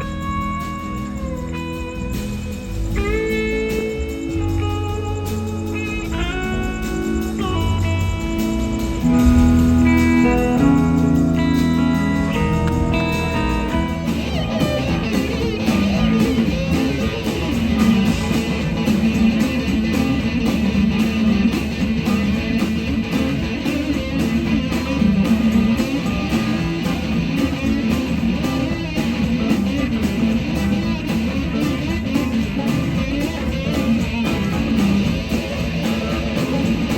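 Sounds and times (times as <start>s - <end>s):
bass guitar: 0.0s - 36.9s
drums: 0.0s - 36.9s
electric slide guitar solo: 0.0s - 36.9s
live rock blues band: 0.0s - 36.9s.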